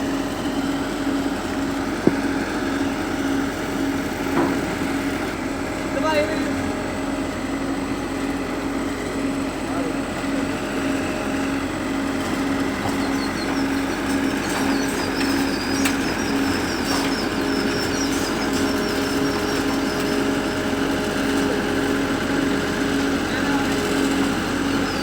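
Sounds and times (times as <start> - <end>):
diesel engine throbbing: 0.0 - 25.0.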